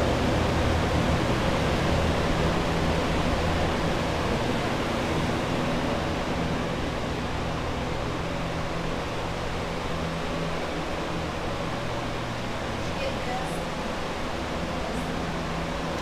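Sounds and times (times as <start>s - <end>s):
fan noise: 0.0s - 16.0s.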